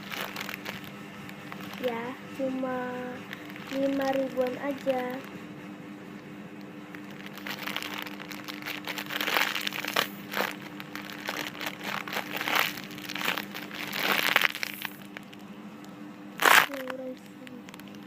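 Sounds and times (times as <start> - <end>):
squishy toy crinkling: 0.0 - 2.1, 3.2 - 5.4, 6.6 - 15.5, 16.4 - 18.0.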